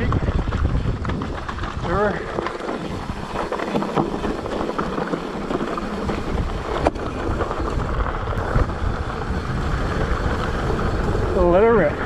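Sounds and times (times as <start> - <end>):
bike clicks and rattles: 0.0 - 12.0
tyres crunching on gravel: 0.0 - 12.0
wind on microphone: 0.0 - 12.0.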